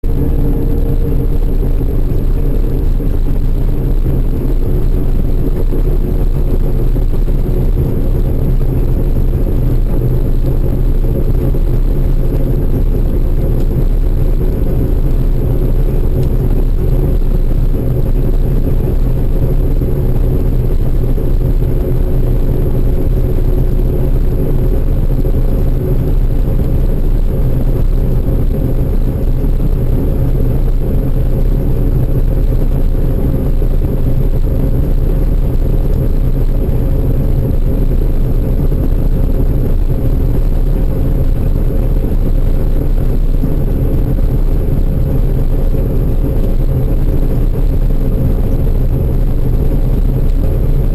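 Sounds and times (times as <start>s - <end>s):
large engine droning: 0.0s - 50.9s.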